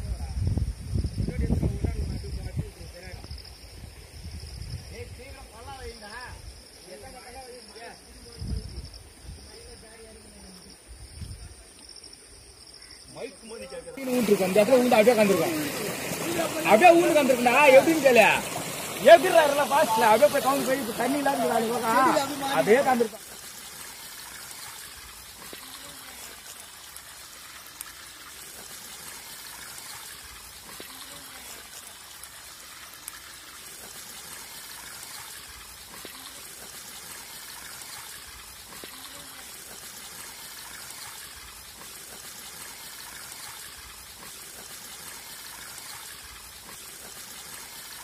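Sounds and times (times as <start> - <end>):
stream water trickling: 0.8 - 48.0.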